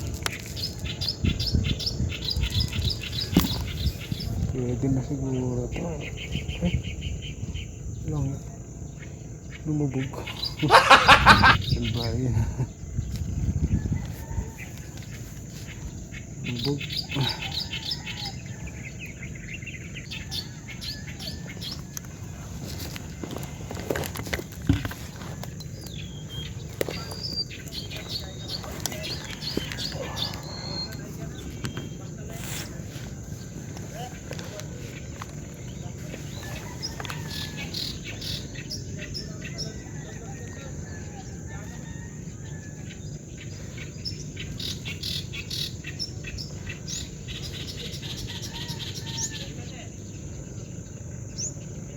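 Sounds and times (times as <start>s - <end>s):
high insect drone: 0.0s - 51.9s
small birds chirping: 0.0s - 51.9s.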